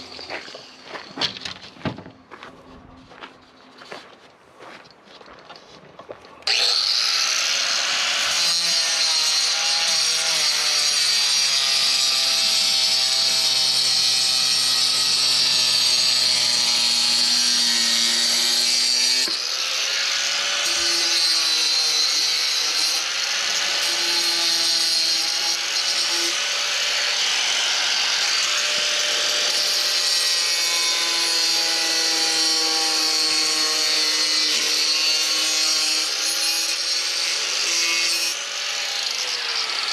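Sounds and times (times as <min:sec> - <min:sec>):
power saw cutting concrete: 0:06.4 - 0:39.9.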